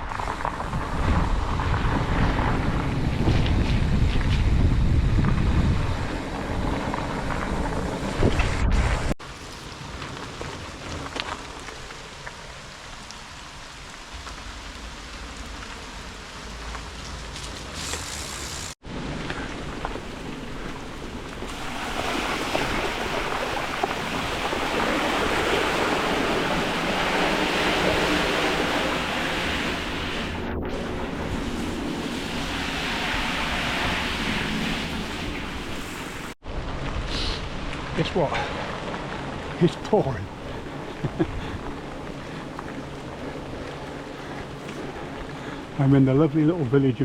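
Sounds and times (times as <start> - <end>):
wind buffeting microphone: 0.0 - 12.1, 19.0 - 45.8
rain hissing on wet road: 9.2 - 47.0.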